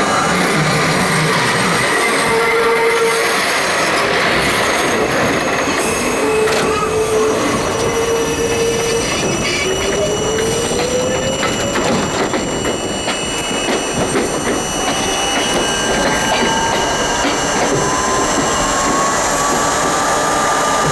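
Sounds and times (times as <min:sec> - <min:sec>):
subway train running: 0:00.0 - 0:20.9
train whine: 0:00.0 - 0:20.9.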